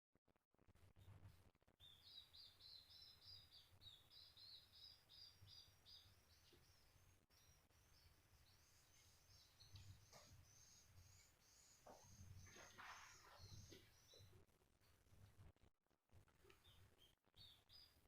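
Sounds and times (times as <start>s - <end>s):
faint low hum: 0.6s - 18.0s.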